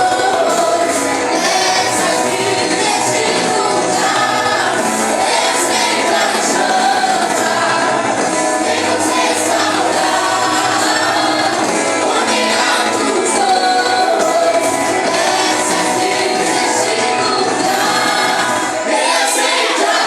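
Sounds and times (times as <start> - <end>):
band playing worship music: 0.0 - 20.0
group of voices singing: 0.0 - 20.0.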